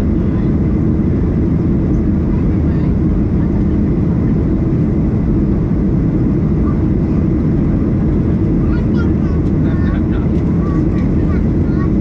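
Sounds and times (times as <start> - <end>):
airliner cabin engine noise: 0.0 - 12.0.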